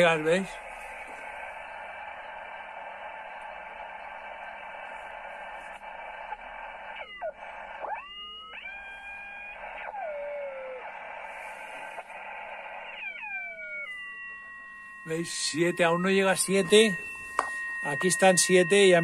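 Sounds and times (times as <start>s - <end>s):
radio receiver hiss: 0.0s - 19.0s
sliding radio whistles: 0.0s - 19.0s.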